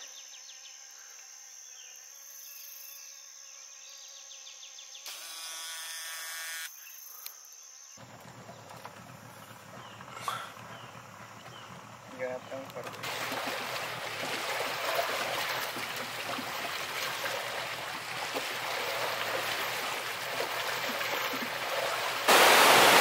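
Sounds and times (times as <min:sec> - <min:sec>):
dull outdoor hiss: 0:00.0 - 0:05.2, 0:06.7 - 0:23.0
insects buzzing and droning: 0:00.0 - 0:23.0.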